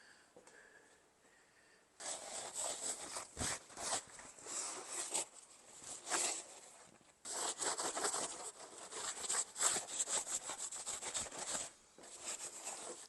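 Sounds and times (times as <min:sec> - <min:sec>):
rubbing strokes on a surface: 0:02.0 - 0:13.0.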